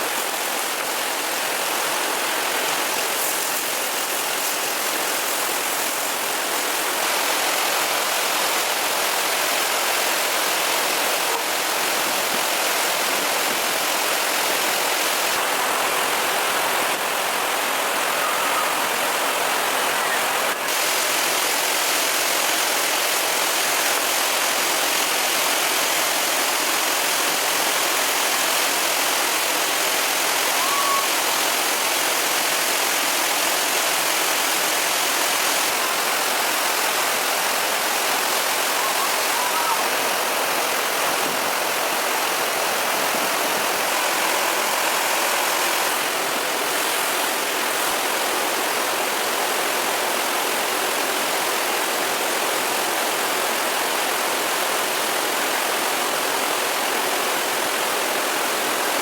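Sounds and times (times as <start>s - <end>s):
water rushing in a stream: 0.0s - 59.0s.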